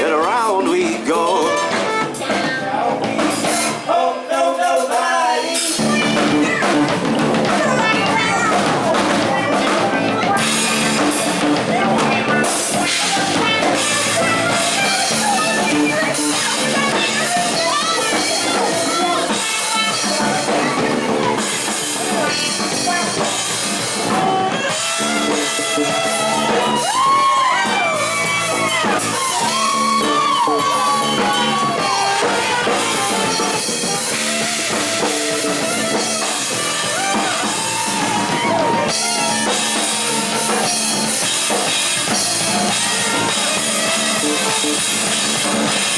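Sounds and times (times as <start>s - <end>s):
bending lead guitar melody: 0.0s - 3.6s, 5.8s - 45.9s
live band playing: 0.0s - 3.9s, 4.6s - 45.9s.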